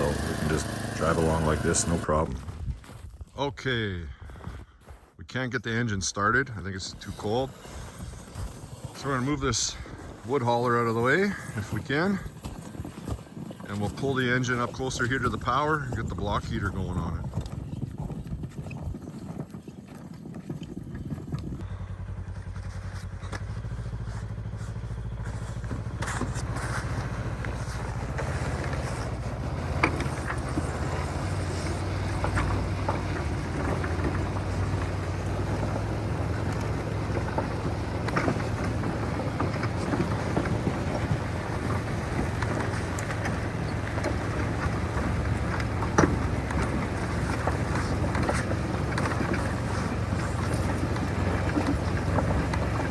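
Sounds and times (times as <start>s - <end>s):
small engine running: 0.0s - 2.3s, 6.8s - 52.9s.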